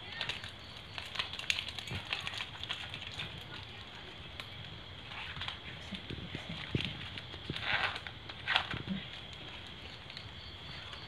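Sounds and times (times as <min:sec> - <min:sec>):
leaves crinkling: 0:00.0 - 0:11.0
leaves rustling: 0:00.0 - 0:11.0.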